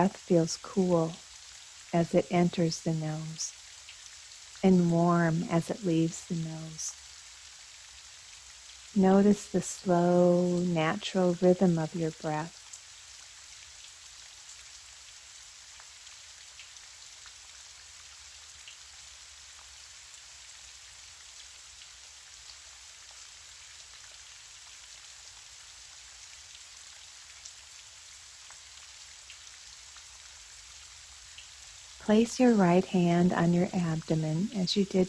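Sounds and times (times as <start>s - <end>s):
gentle rain hiss: 0.0s - 35.0s.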